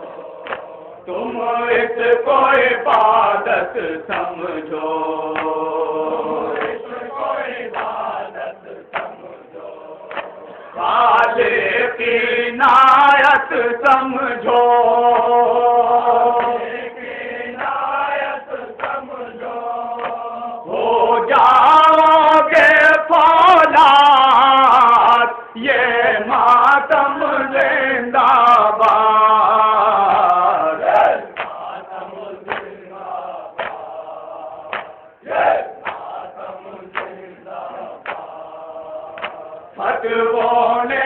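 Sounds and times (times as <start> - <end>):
men chanting a mourning lament: 0.0 - 41.0.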